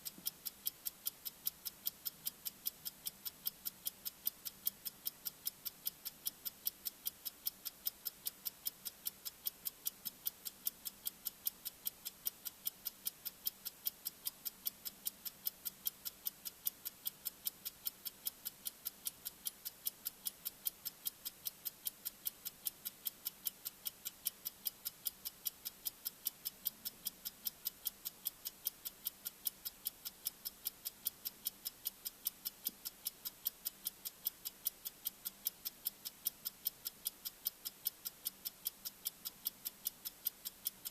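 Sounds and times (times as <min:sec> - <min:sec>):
high clock-like ticks: 0:00.0 - 0:40.9.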